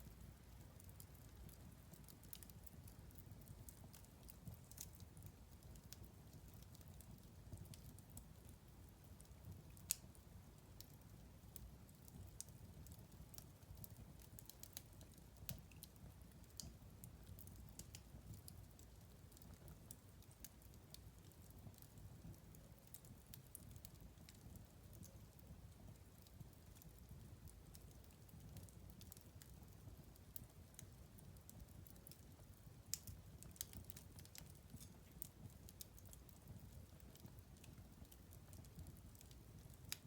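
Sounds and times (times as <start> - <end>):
fire crackling and popping: 0.0 - 40.0
fire rumbling: 0.0 - 40.0.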